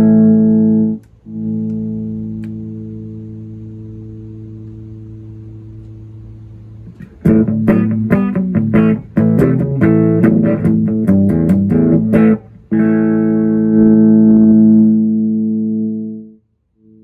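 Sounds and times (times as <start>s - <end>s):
electric guitar chords and notes: 0.0s - 6.1s, 6.8s - 17.0s.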